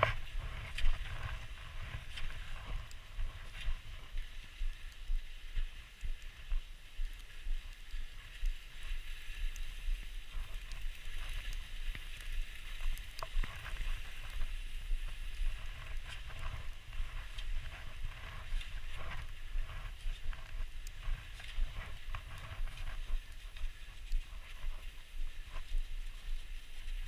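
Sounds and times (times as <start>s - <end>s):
skis hissing over snow: 0.0s - 27.0s
wind rumbling on microphone: 0.0s - 27.0s.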